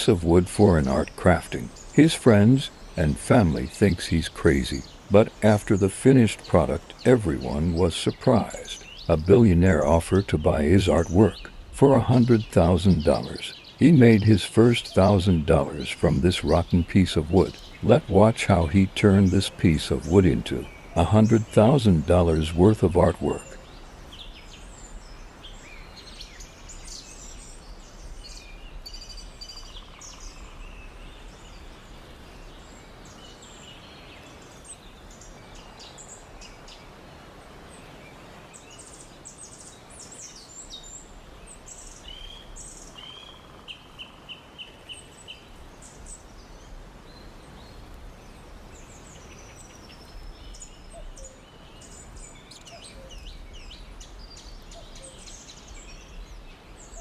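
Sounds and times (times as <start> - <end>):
birds chirping and calling: 0.0 - 37.0, 38.6 - 57.0
steady background hiss: 0.0 - 57.0.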